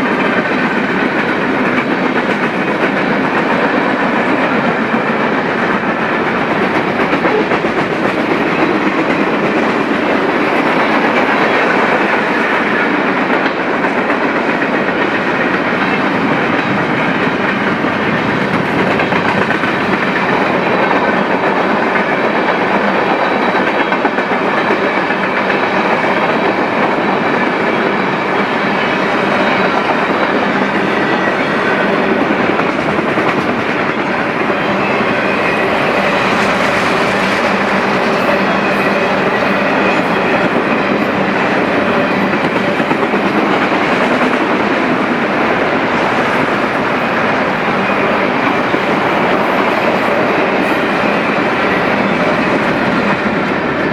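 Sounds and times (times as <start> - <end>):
freight train rolling on rails: 0.0 - 53.9.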